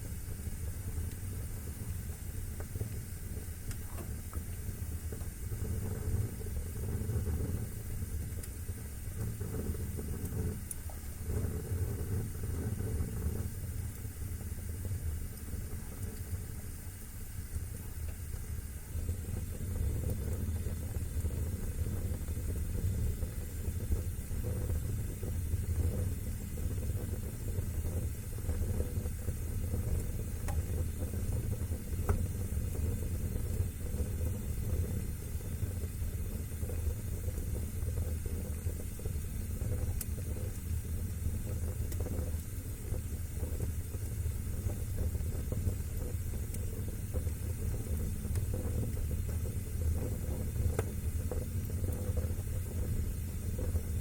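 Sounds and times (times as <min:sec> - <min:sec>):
fire crackling and popping: 0:00.0 - 0:54.0
fire rumbling and hissing: 0:00.0 - 0:54.0.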